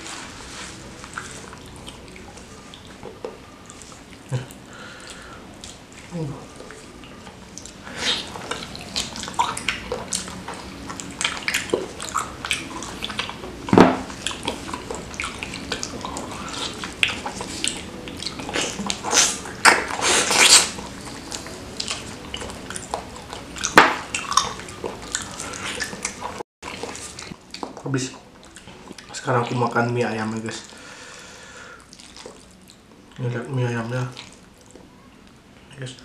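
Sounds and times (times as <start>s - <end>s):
wet chewing and lip-smacking: 0.8s - 29.6s, 31.8s - 33.2s, 34.1s - 35.4s.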